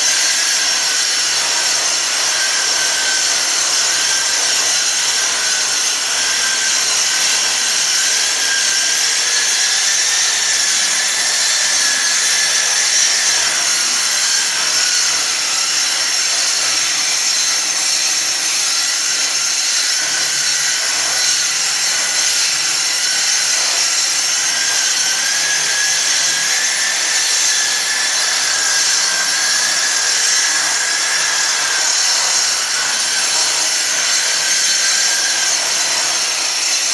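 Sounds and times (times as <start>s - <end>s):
angle grinder sanding stone: 0.0s - 36.9s.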